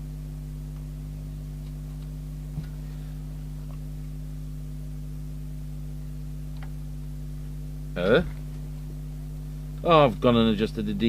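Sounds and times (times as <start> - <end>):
low mains hum: 0.0 - 11.0.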